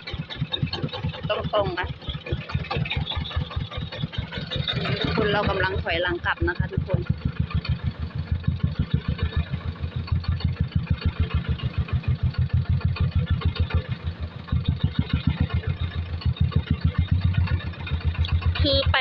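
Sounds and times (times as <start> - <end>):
single-cylinder diesel engine chugging: 0.0 - 19.0.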